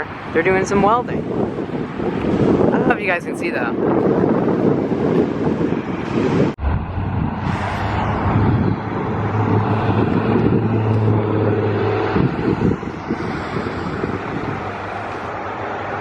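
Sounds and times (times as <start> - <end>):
passing traffic: 0.0 - 16.0
vehicle engine humming: 0.0 - 16.0.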